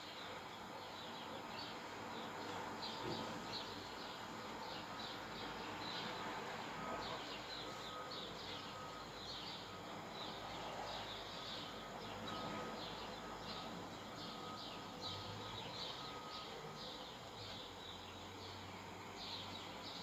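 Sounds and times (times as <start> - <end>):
faint small birds chirping: 0.0 - 20.0.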